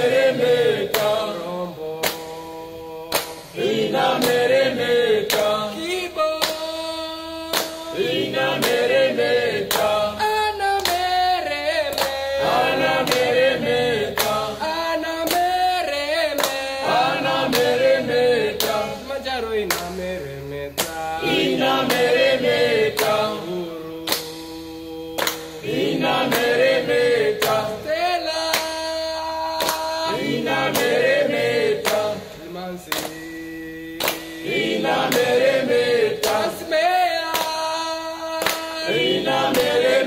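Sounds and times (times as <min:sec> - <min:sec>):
choir singing: 0:00.0 - 0:02.0, 0:03.4 - 0:06.5, 0:07.9 - 0:19.6, 0:20.8 - 0:24.2, 0:24.9 - 0:28.5, 0:29.6 - 0:33.3, 0:33.9 - 0:37.4, 0:38.0 - 0:40.0.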